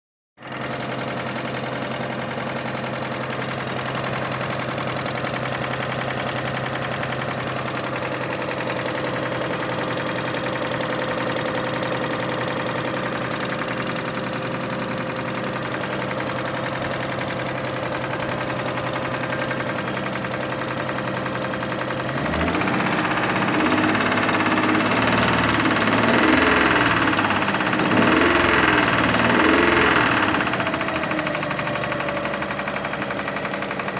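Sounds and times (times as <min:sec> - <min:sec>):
engine knock: 0:00.4 - 0:33.9
car engine idling and revving: 0:00.5 - 0:33.9.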